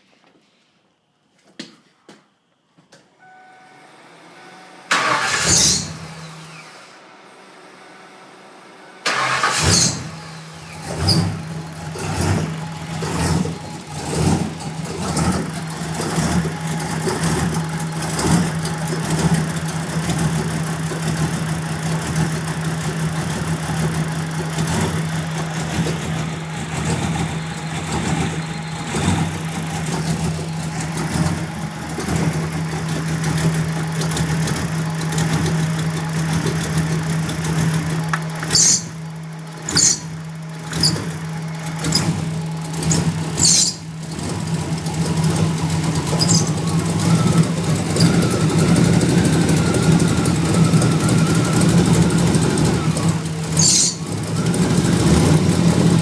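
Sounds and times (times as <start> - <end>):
car engine starting and idling: 3.2 - 56.0.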